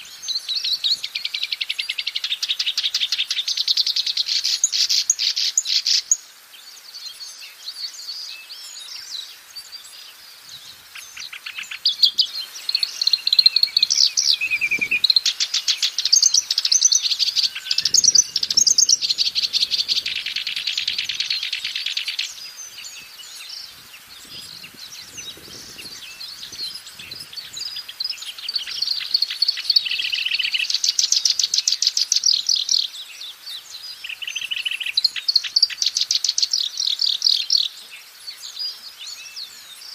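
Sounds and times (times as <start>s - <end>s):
reed warbler singing: 0.0s - 39.9s.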